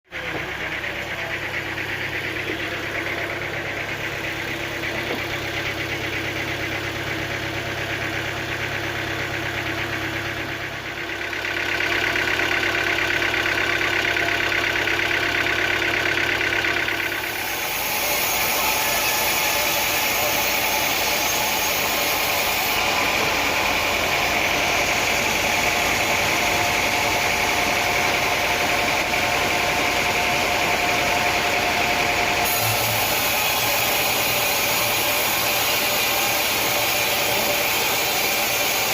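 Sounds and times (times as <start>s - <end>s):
sawmill machinery drone: 0.1s - 38.9s.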